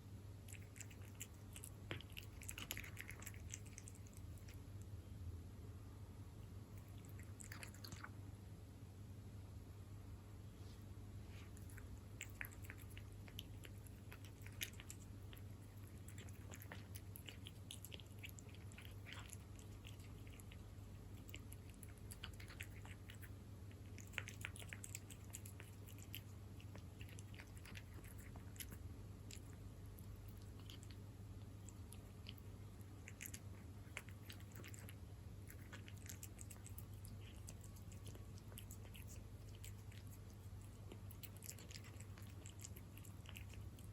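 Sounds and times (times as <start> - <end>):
low steady hum: 0.0 - 43.9
cat chewing wet food: 0.4 - 5.0, 6.4 - 8.3, 11.2 - 43.9.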